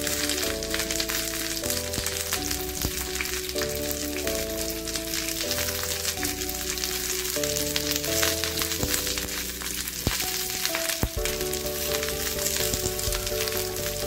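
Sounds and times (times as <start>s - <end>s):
background music with held chords: 0.0s - 14.0s
leaves crackling and sizzling in pan: 0.0s - 14.0s.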